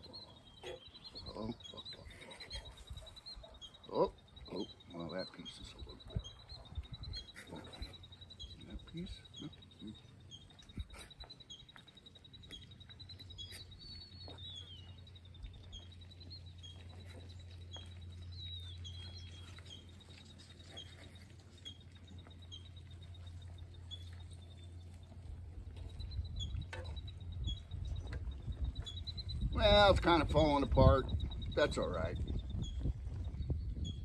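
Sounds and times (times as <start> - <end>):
bird calls: 0.0 - 34.0
insect trill: 0.0 - 34.0.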